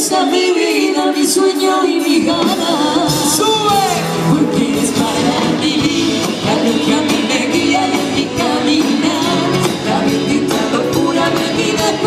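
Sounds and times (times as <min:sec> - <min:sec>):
live pop band music: 0:00.0 - 0:12.0
person singing: 0:00.0 - 0:12.0.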